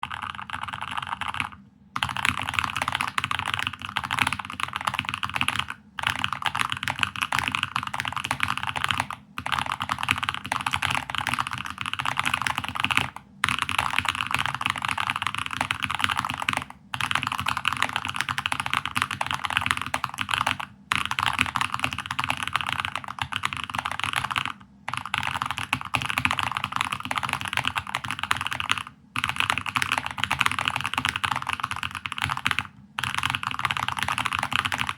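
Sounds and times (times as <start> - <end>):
fast mechanical keyboard typing: 0.0 - 34.9.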